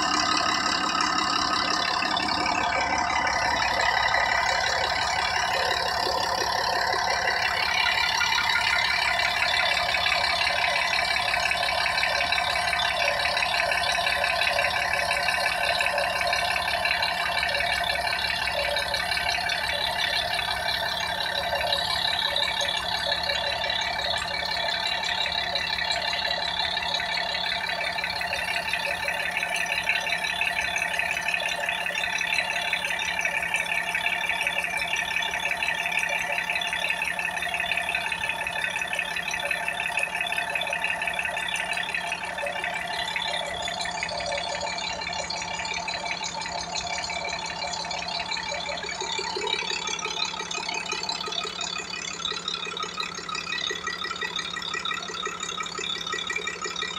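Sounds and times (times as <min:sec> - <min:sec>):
car engine rattling clatter: 0:00.0 - 0:56.9.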